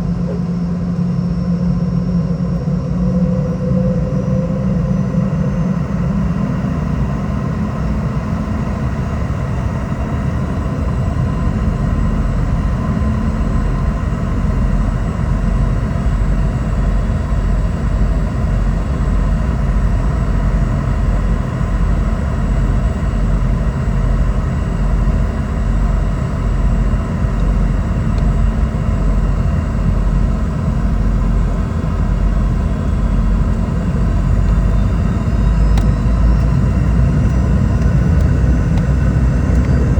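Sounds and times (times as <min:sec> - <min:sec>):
faint steady whine: 0:00.0 - 0:39.9
jet engine cabin rumble: 0:00.0 - 0:39.9.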